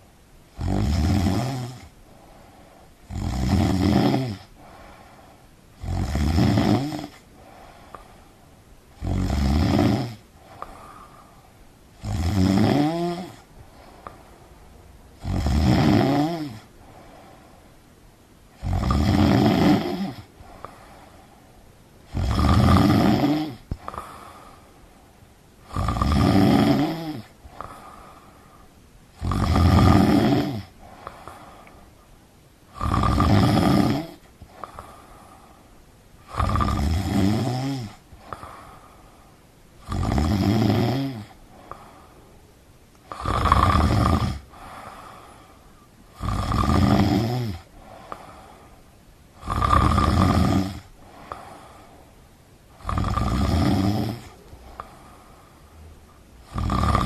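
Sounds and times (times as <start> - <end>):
person snoring: 0.6 - 8.1, 8.9 - 11.4, 12.0 - 14.2, 15.2 - 17.4, 18.5 - 21.3, 22.1 - 24.7, 25.6 - 31.8, 32.7 - 39.0, 39.8 - 42.2, 43.0 - 48.7, 49.4 - 52.0, 52.7 - 57.0
faint breathing: 1.7 - 3.4, 4.4 - 6.0, 7.0 - 9.2, 10.2 - 15.2, 16.3 - 18.8, 19.8 - 22.3, 23.2 - 26.0, 26.6 - 36.8, 37.4 - 40.1, 40.9 - 57.0.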